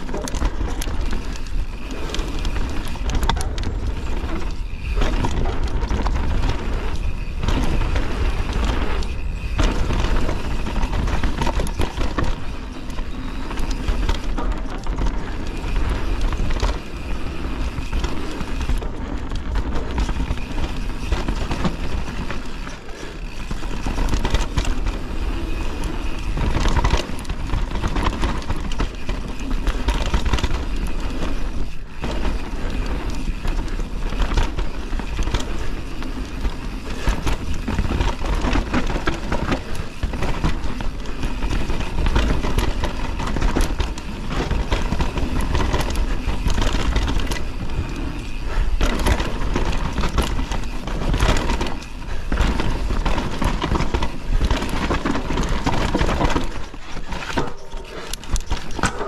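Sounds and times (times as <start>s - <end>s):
bike chain clicks and rattles: 0.0s - 59.0s
bike tyres rolling over dirt: 0.0s - 59.0s.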